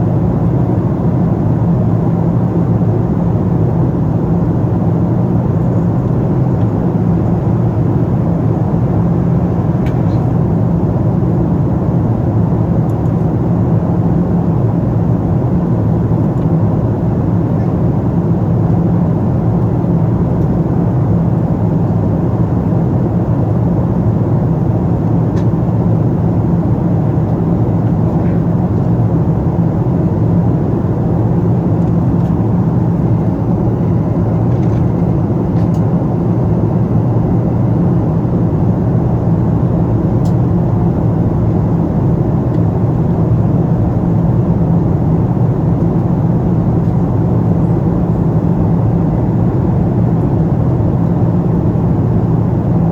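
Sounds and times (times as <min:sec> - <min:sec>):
airliner cabin engine drone: 0:00.0 - 0:52.9.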